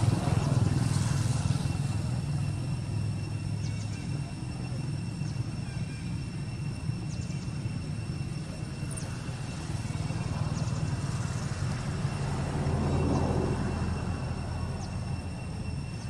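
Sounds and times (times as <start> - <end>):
faint high whine: 0.0 - 16.0
low outdoor rumble: 0.0 - 16.0.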